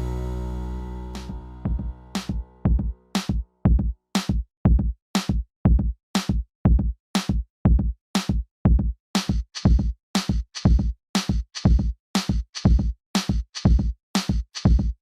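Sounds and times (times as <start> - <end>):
electronic drum-machine beat: 1.1 - 15.0.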